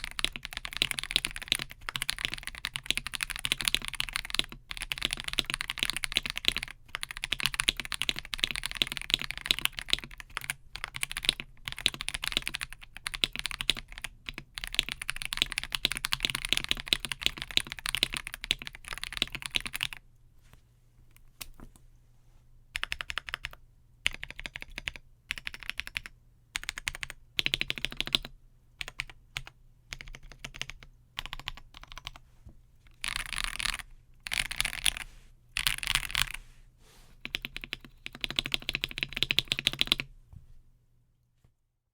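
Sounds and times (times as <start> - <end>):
typing on mechanical keyboard: 0.0 - 20.0, 22.8 - 32.2, 33.0 - 35.0, 35.6 - 36.4, 37.2 - 40.1.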